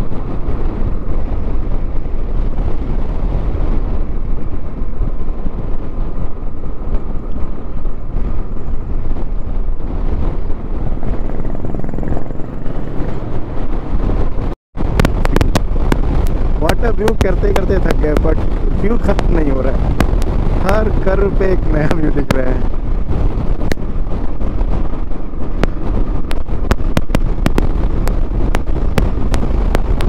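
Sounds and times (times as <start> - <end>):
vehicle driving on road: 0.0 - 30.0.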